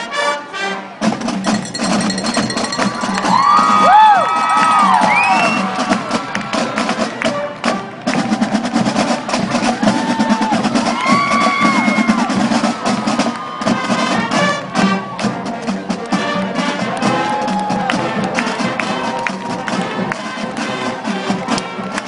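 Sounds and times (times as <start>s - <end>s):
marching band playing: 0.0s - 22.0s
drum-line percussion: 1.0s - 22.0s
crowd cheering: 1.4s - 22.0s.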